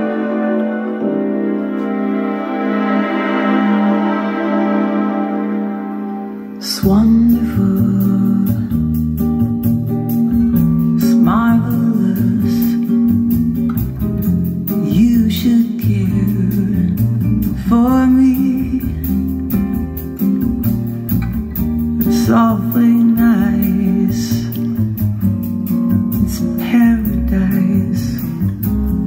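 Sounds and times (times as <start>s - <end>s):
guitar-led music over loudspeakers: 0.0s - 29.0s.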